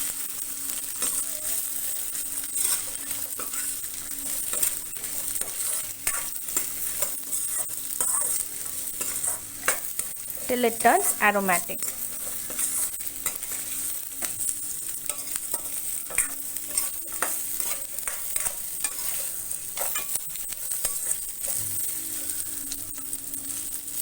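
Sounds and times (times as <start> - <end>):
food sizzling in oil: 0.0 - 24.0
spatula scraping pan: 0.7 - 11.2, 11.8 - 23.8.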